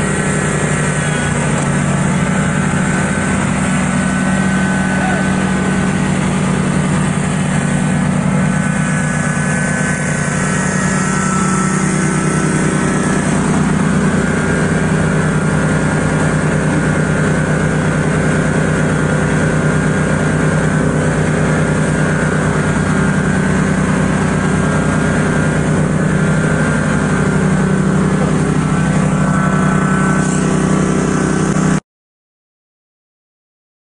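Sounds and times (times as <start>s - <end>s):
lawn mower engine running: 0.0s - 31.8s.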